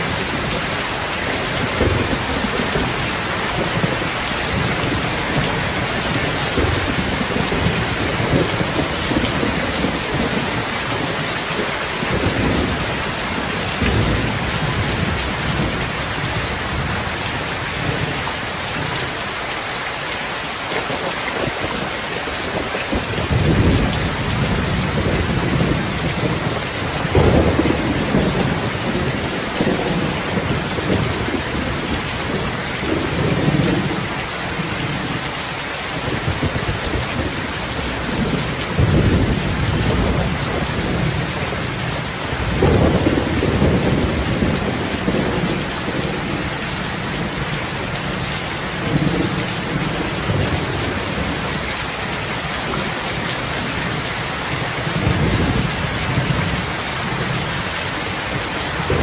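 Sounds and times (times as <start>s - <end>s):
heavy rain: 0.0s - 59.0s
thunder rolling: 1.3s - 18.2s, 20.9s - 35.2s, 36.1s - 51.7s, 53.6s - 59.0s.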